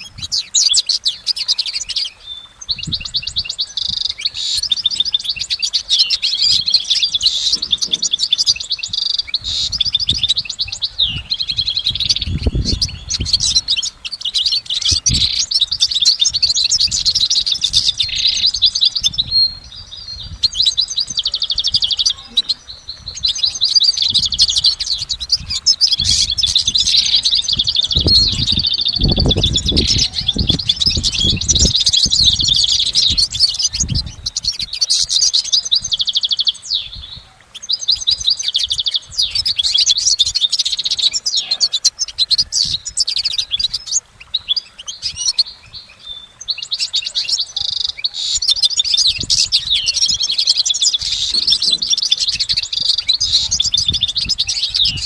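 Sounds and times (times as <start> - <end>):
goldfinch singing: 0.0 - 55.0.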